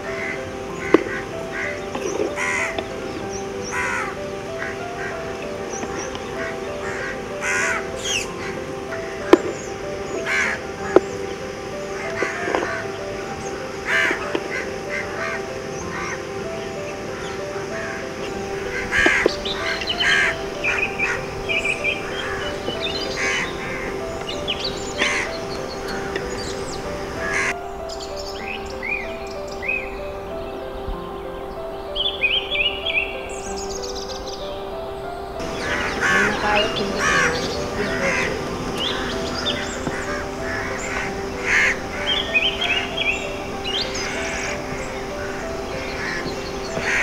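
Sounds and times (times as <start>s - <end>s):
crows cawing: 0.0s - 27.6s, 31.4s - 47.0s
background music: 0.0s - 47.0s
small birds chirping: 0.0s - 47.0s.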